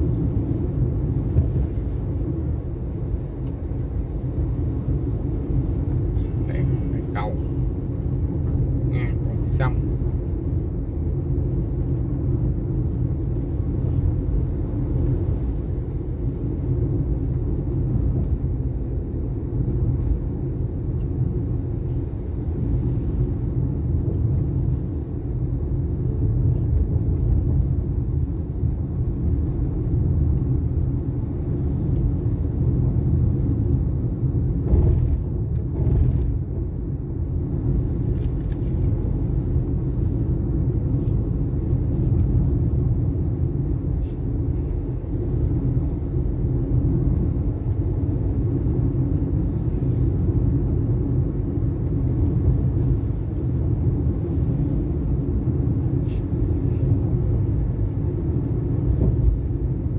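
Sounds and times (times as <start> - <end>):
vehicle rumbling on highway: 0.0 - 59.9.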